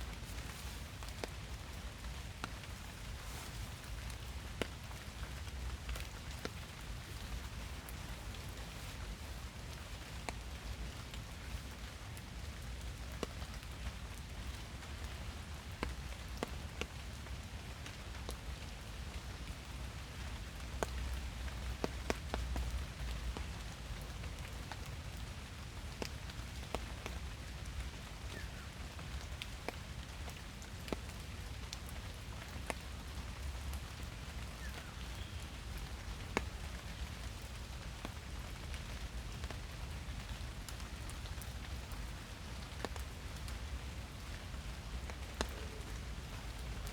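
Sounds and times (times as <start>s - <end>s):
drops ticking on leaves: 0.0s - 46.9s
steady rain in forest: 0.0s - 46.9s.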